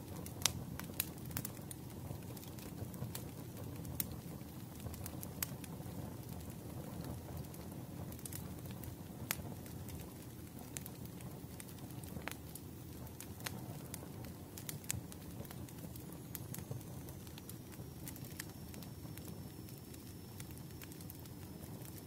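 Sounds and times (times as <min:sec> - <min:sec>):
low rush of flames: 0:00.0 - 0:22.0
wood fire crackling and popping: 0:00.0 - 0:22.0.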